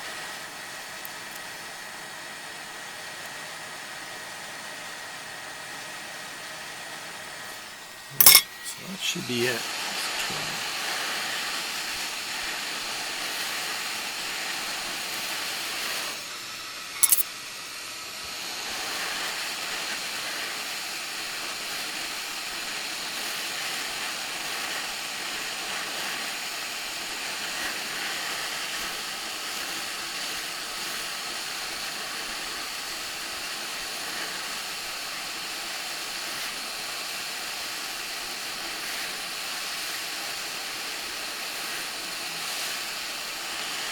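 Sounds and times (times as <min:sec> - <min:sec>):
hot air station hissing: 0:00.0 - 0:43.9.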